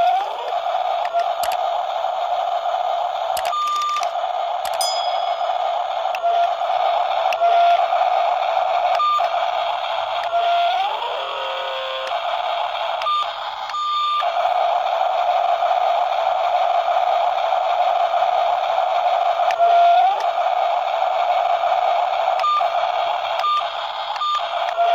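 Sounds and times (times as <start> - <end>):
toy gear motors whining: 0.0 - 24.9.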